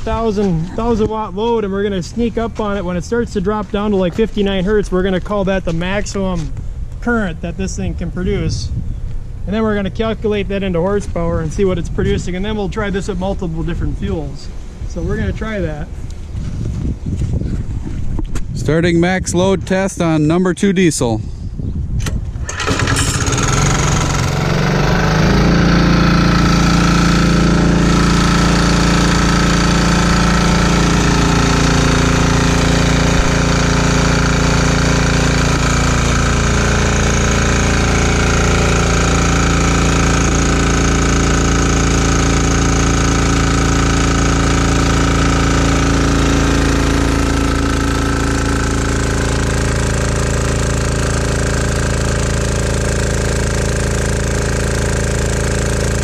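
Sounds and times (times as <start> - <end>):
diesel engine running generator: 0.0 - 17.0, 22.3 - 56.0.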